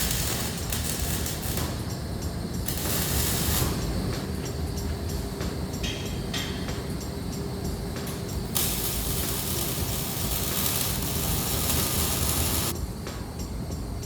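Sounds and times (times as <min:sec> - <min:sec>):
loud hiss from a tool: 0:00.0 - 0:05.2, 0:05.8 - 0:12.8.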